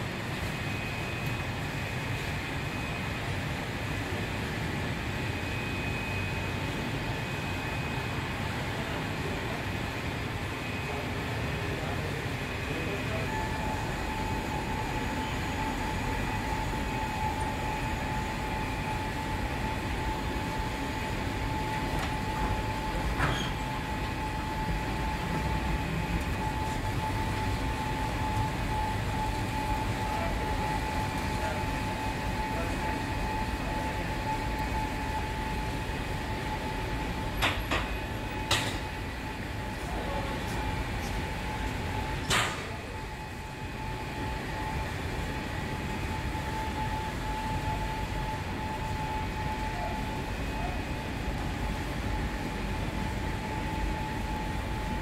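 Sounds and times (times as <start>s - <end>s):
factory machinery rumble and whine: 0.0s - 55.0s.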